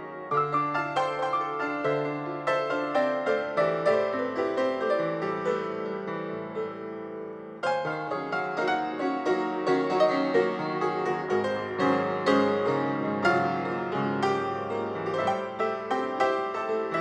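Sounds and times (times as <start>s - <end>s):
instrumental piano music: 0.0s - 17.0s.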